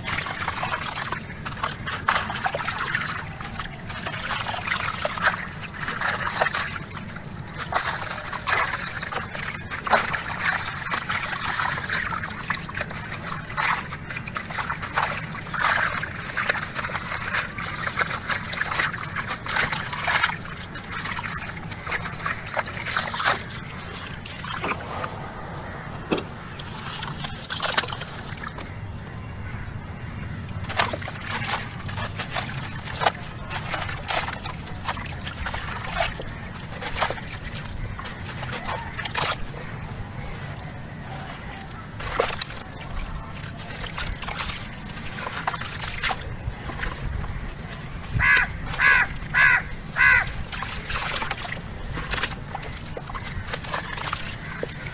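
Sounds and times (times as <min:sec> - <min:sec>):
grit splashing into water: 0:00.0 - 0:25.4, 0:26.1 - 0:29.0, 0:30.1 - 0:54.9.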